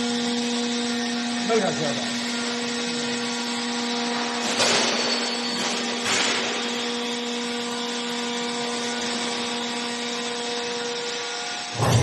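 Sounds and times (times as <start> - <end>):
meat grinder motor humming: 0.0 - 4.5, 5.7 - 12.0.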